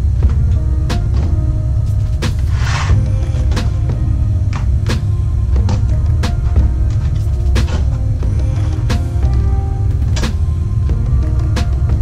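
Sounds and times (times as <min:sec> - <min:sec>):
music with heavy bass: 0:00.0 - 0:12.0.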